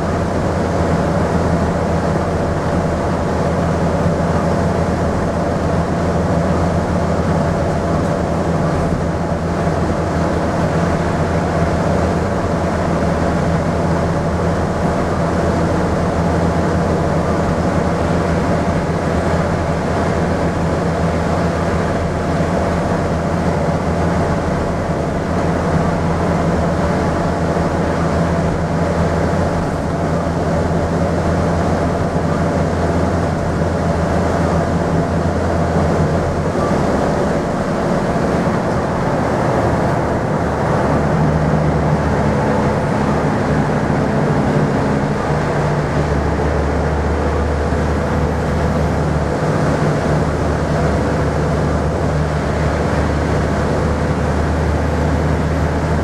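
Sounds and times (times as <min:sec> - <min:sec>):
bus diesel engine working hard: 0:00.0 - 0:56.0
road and tyre noise: 0:00.0 - 0:56.0.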